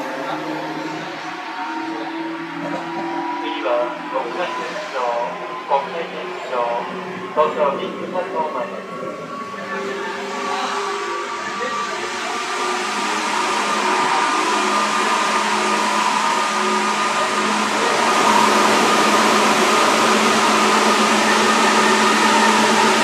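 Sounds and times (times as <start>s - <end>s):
electric train running: 0.0s - 23.0s
faint steady tones: 0.0s - 23.0s.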